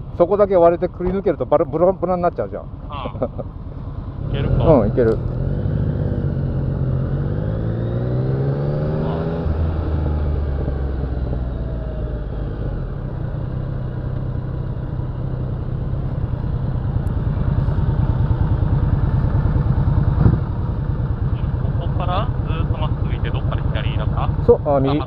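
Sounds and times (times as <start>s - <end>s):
motorcycle engine accelerating: 2.9s - 25.0s.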